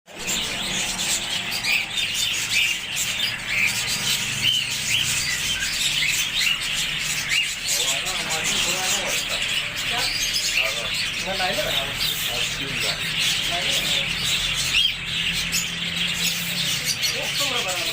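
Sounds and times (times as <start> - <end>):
parrots chattering: 0.1 - 17.9.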